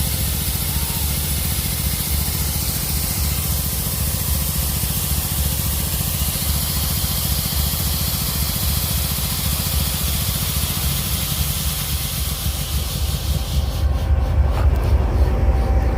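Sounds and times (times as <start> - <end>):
air compressor pulsing rumble: 0.0 - 15.9
compressed air hissing: 0.0 - 15.9.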